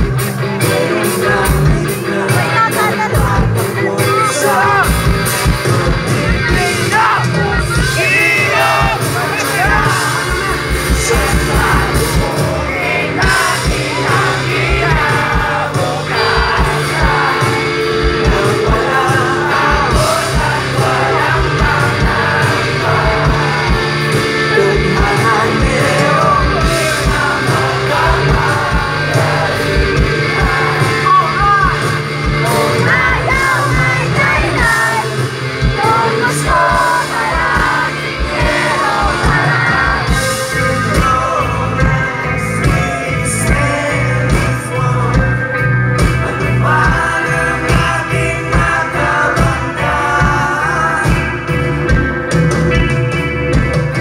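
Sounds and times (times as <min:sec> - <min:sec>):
person singing: 0:00.0 - 0:52.0
drums: 0:00.0 - 0:54.0
electric guitars: 0:00.0 - 0:54.0
live rock band playing: 0:00.0 - 0:54.0.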